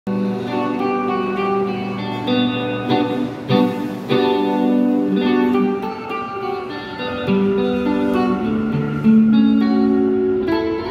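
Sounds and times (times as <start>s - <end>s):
electric guitar solo: 0.1s - 10.9s.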